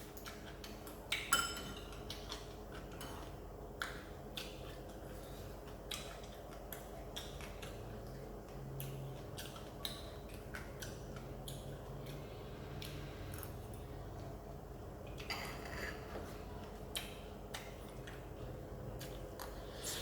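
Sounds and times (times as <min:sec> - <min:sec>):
person chewing crunchy food: 0:00.0 - 0:14.4, 0:15.0 - 0:20.0
low steady hum: 0:00.0 - 0:20.0.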